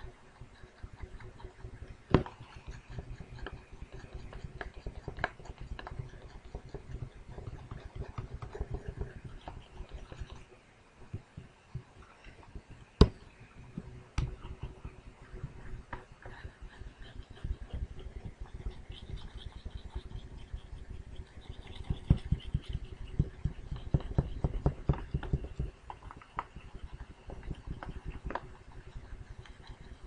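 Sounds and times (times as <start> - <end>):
stylus scratching on drawing tablet: 0.0 - 11.5, 12.3 - 30.0.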